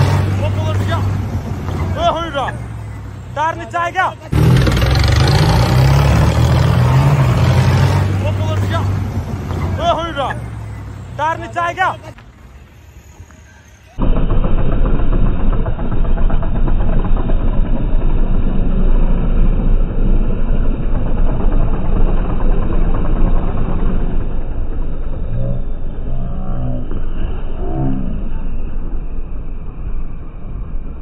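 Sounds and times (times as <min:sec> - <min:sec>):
diesel tractor engine running hard: 0:00.0 - 0:29.0.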